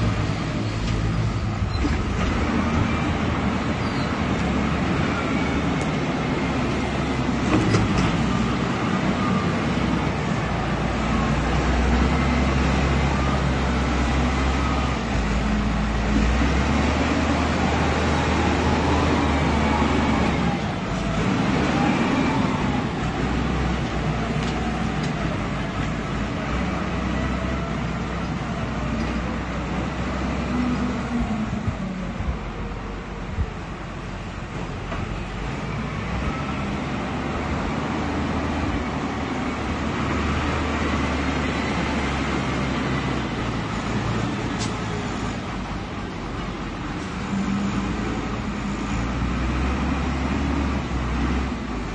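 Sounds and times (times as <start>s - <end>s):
wheel loader diesel engine droning: 0.0s - 51.9s.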